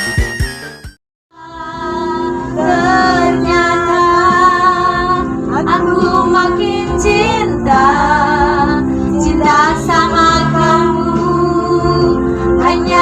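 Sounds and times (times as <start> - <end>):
woman singing pop music: 1.4 - 13.0.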